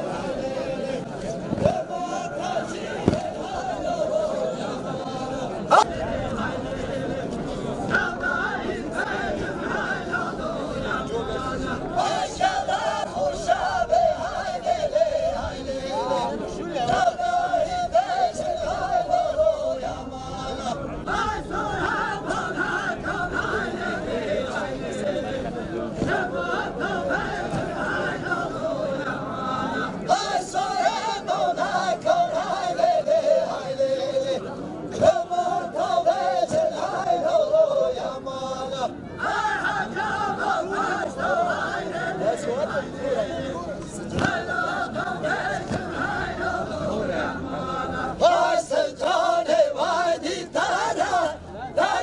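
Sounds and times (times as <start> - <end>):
men singing unaccompanied: 0.0 - 52.0
solo male voice singing: 0.0 - 52.0.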